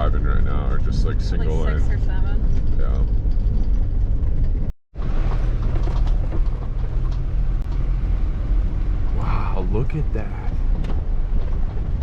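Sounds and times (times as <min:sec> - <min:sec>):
vehicle rumbling on rough road: 0:00.0 - 0:12.0
creaks and rattles: 0:02.0 - 0:12.0.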